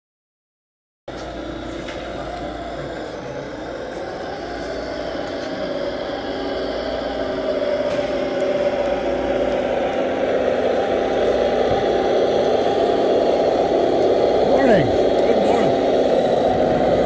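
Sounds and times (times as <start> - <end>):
truck engine running: 1.1 - 17.0.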